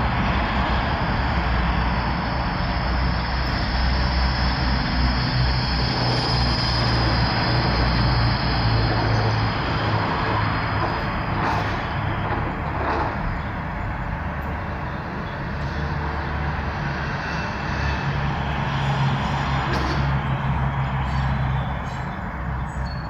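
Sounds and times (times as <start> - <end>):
traffic passing: 0.0 - 23.0.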